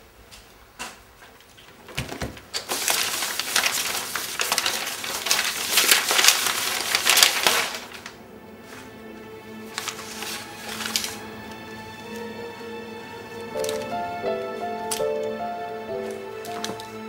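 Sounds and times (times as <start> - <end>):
paper rustling: 1.6 - 9.0, 9.6 - 12.4, 13.3 - 17.0.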